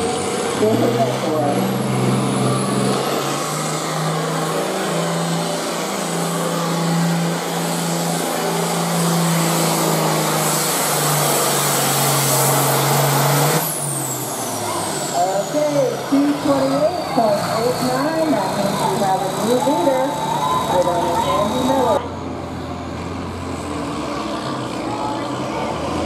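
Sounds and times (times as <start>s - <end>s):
tractor engine under full load: 0.0s - 26.0s.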